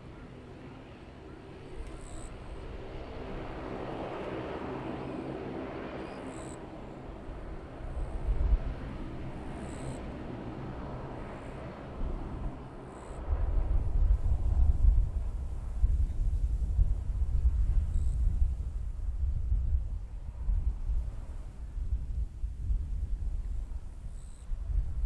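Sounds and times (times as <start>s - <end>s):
airliner engines droning: 0.0s - 25.0s.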